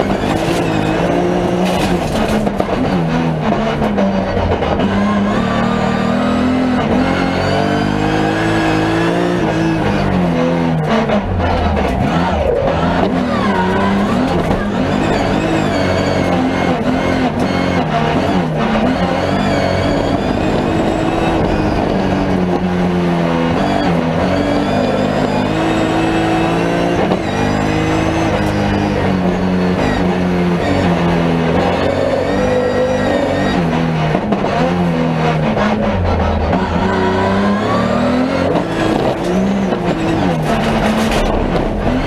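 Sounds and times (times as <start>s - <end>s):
race car engine revving: 0.0s - 42.0s
road and tyre noise: 0.0s - 42.0s.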